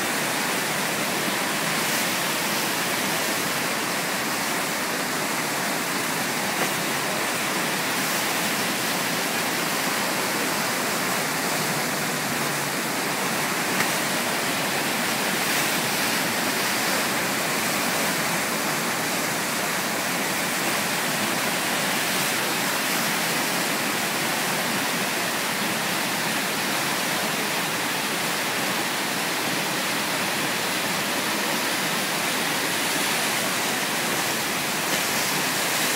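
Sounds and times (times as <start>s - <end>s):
whitewater churning and rushing: 0.0s - 35.9s.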